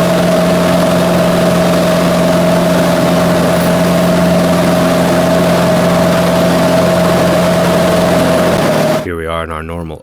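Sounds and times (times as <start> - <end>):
propeller plane engine drone: 0.0 - 9.1.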